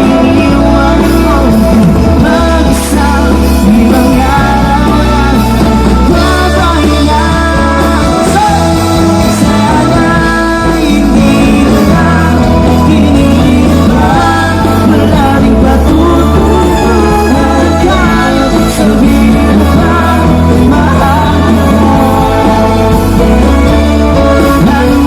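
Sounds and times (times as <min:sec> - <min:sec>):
heavy bass: 0:00.0 - 0:25.0
song with singing voice: 0:00.0 - 0:25.0.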